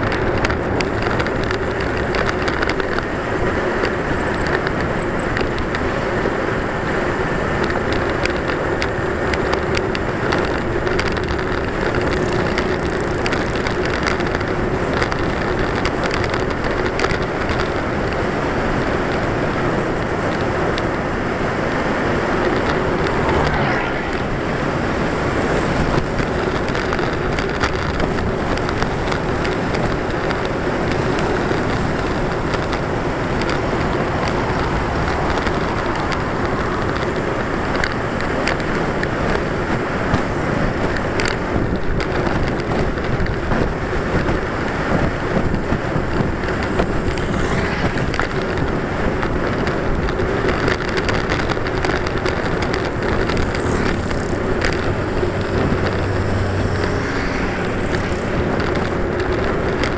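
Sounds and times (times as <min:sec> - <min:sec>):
road noise: 0:00.0 - 0:59.9
wind on microphone: 0:00.0 - 0:59.9.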